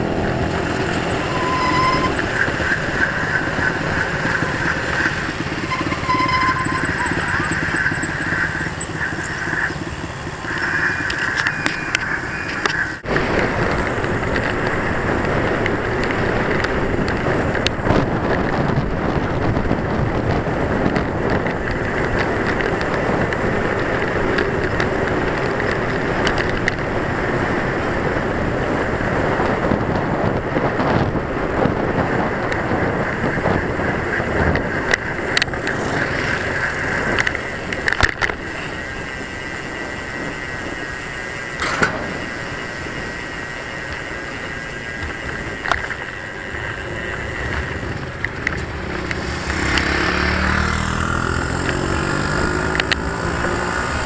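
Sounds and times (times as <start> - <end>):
bicycle tyres rumbling on road: 0.0 - 54.0
wind noise on microphone: 0.0 - 54.0.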